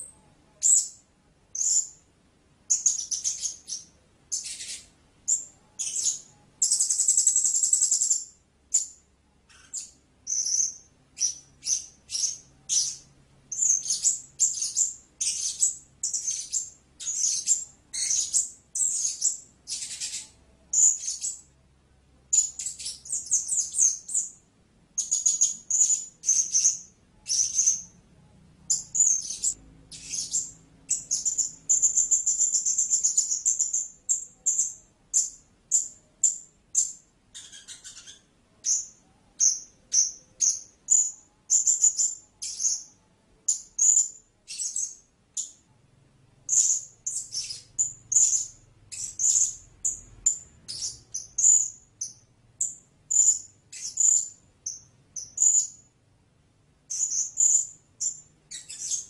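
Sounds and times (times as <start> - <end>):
parrot chirping calls: 0.0 - 2.0, 2.7 - 21.6, 22.3 - 28.0, 28.6 - 45.6, 46.5 - 55.9, 56.9 - 59.0.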